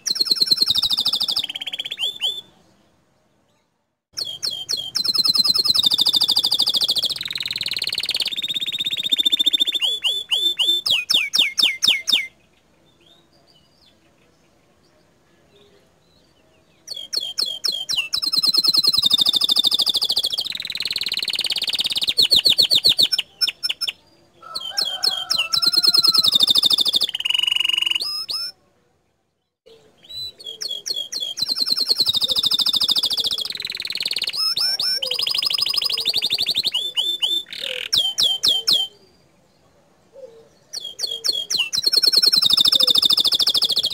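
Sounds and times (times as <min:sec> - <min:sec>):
canary singing trills: 0:00.0 - 0:15.0, 0:15.6 - 0:28.6, 0:29.4 - 0:43.9.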